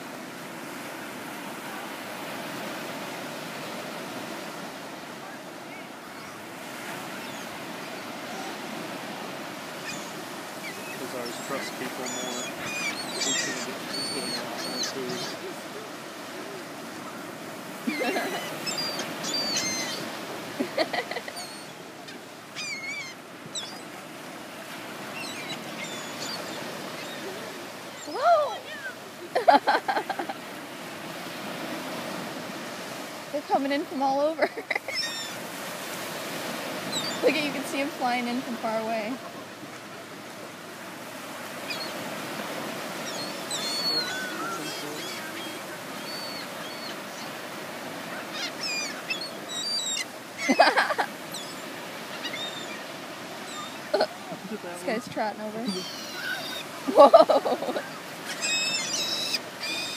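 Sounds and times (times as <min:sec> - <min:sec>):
surf hiss: 0:00.0 - 0:59.9
seagulls calling: 0:04.6 - 0:30.5, 0:34.4 - 0:39.8, 0:41.2 - 0:59.9.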